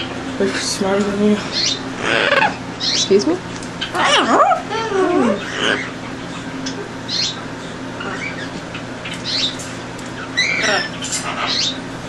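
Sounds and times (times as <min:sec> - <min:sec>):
parrots squawking and calling: 0:01.5 - 0:11.9.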